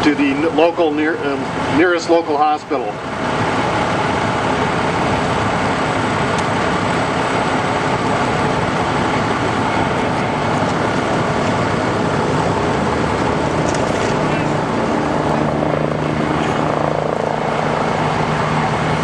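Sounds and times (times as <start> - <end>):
helicopter rotor and engine: 0.0 - 19.0.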